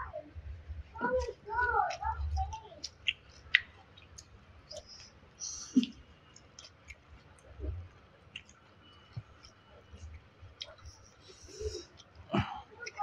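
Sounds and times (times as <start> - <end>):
wet mouth clicks and smacks chewing: 1.0 - 13.0.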